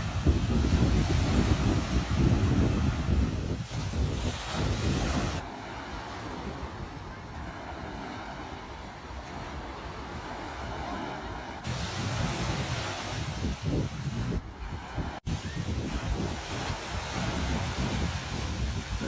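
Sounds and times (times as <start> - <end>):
ocean waves washing on beach: 0.0 - 19.0
wind buffeting microphone: 0.0 - 19.0.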